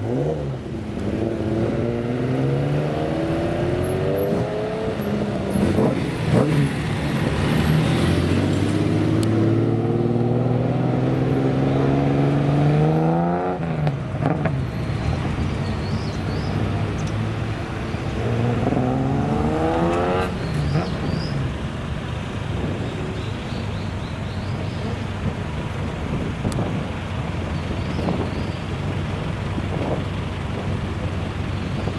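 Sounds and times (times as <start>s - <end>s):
car engine accelerating: 0.0s - 31.9s.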